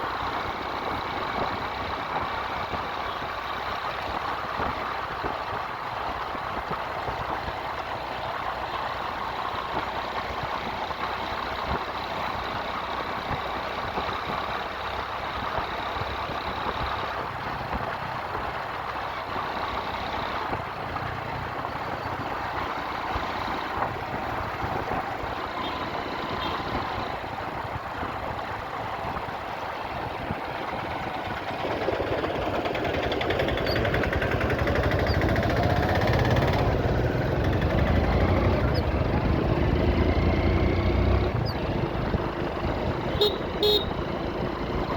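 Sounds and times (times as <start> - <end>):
motorcycle engine running: 0.0 - 44.9
road noise: 0.0 - 44.9.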